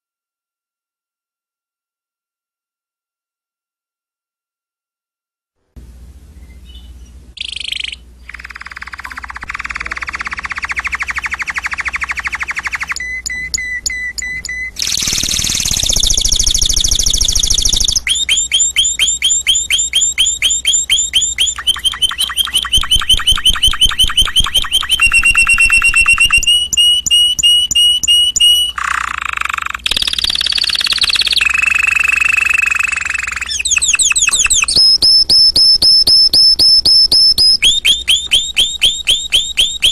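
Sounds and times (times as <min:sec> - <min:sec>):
canary singing trills: 0:06.3 - 0:39.9.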